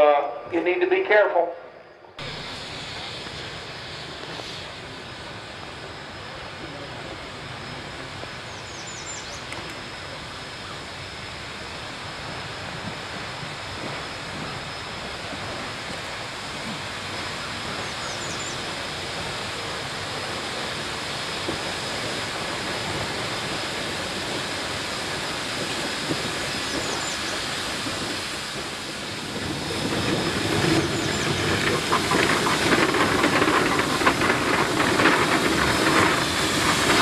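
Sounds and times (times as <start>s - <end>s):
steam locomotive hissing steam: 0.0s - 37.0s.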